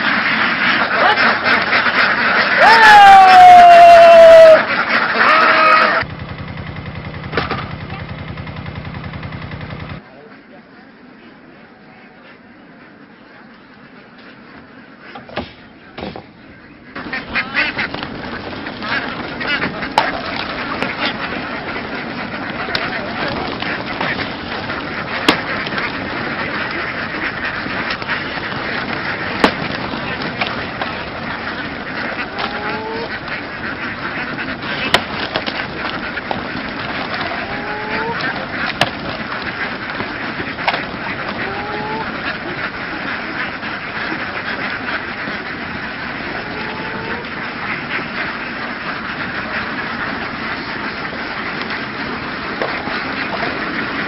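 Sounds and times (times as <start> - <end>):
flock of ducks quacking: 0.0 - 54.0.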